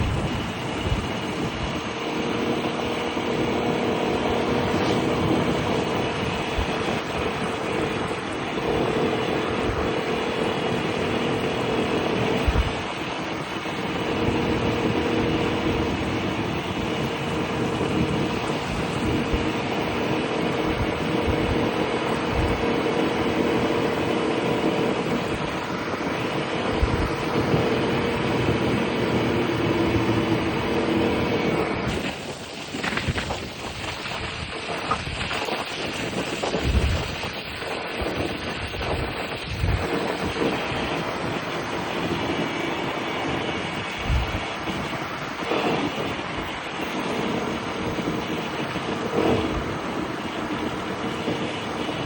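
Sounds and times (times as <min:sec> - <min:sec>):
scooter engine running: 0:00.0 - 0:52.0
wind and road noise: 0:00.0 - 0:52.0.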